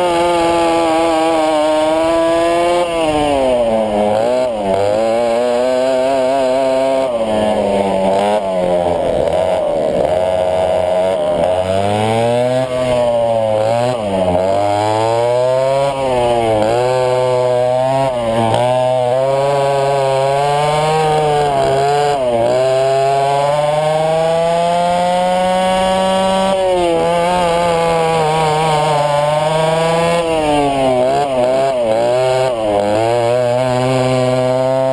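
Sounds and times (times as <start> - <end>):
kart engines racing: 0.0 - 34.9.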